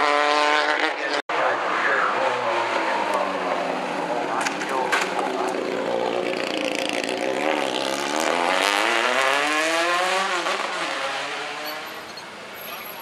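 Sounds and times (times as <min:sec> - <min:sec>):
race car engine accelerating: 0:00.0 - 0:12.1.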